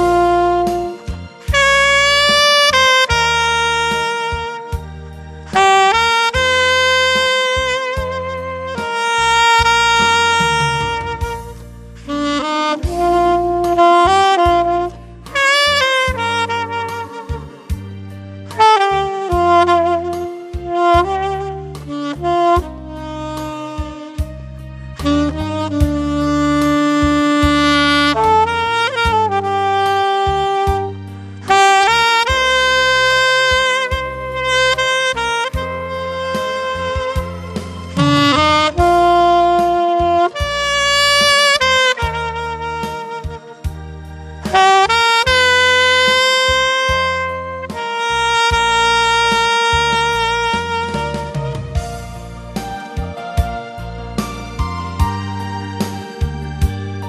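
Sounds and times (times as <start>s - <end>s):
backing track with bass: 0.0s - 57.0s
slow melody with vibrato: 0.0s - 57.0s.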